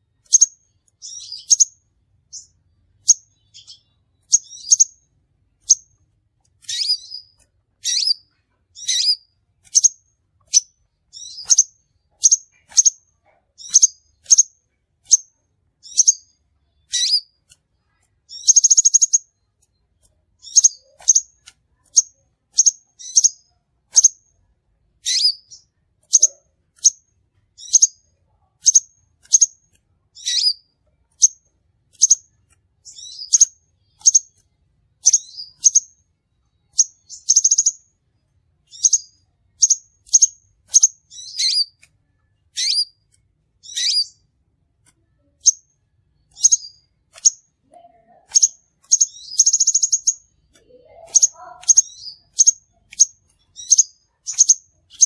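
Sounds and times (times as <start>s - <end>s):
bird chirping: 0.0s - 55.0s
buzzy bird trill: 0.2s - 6.0s, 6.6s - 17.4s, 18.3s - 19.6s, 20.4s - 24.2s, 25.0s - 27.0s, 27.6s - 36.0s, 36.6s - 37.9s, 38.6s - 41.8s, 42.5s - 44.3s, 45.2s - 55.0s.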